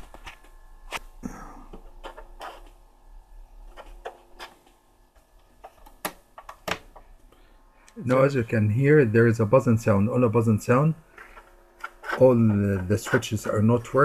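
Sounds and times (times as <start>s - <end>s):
faint mains buzz from speaker: 0.0s - 14.0s.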